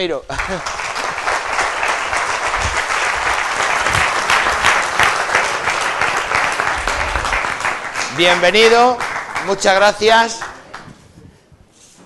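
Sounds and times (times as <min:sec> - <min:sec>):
audience applauding: 0:00.3 - 0:11.0.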